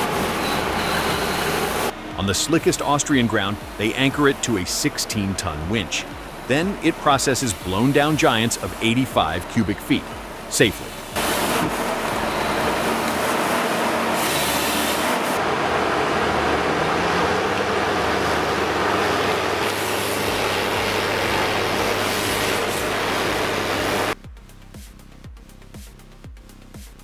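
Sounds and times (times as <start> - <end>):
diesel engine running under load: 0.0 - 24.2.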